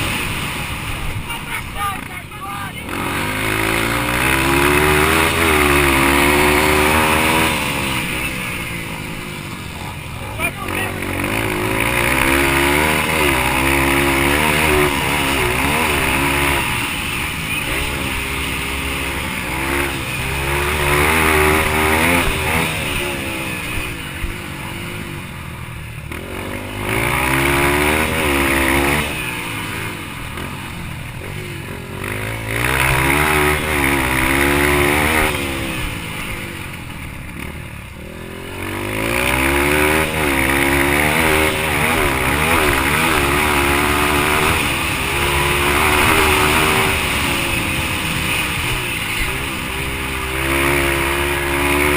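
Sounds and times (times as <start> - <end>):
dirt bike engine accelerating: 0.0 - 51.9.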